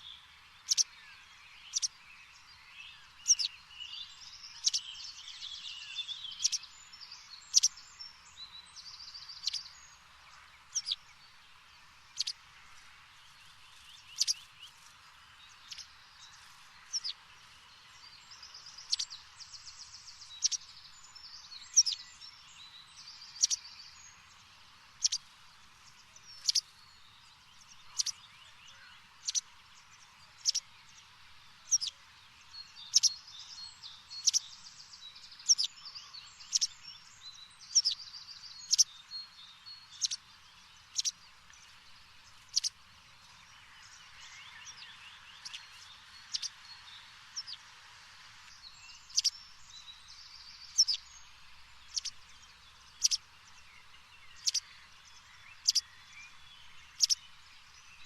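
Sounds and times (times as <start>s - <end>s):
bird chirping: 0.0s - 47.7s, 48.4s - 58.0s
steady background hiss: 0.0s - 58.0s.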